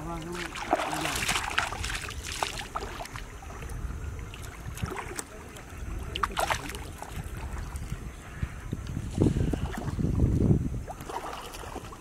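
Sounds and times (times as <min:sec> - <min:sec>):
water splashes: 0:00.0 - 0:08.4, 0:09.1 - 0:12.0
wind rumbling on microphone: 0:00.0 - 0:12.0.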